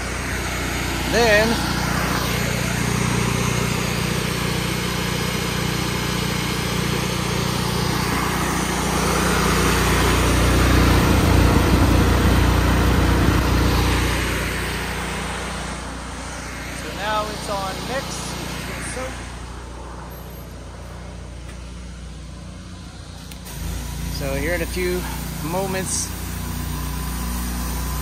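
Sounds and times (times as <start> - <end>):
pressure washer engine running: 0.0 - 28.0.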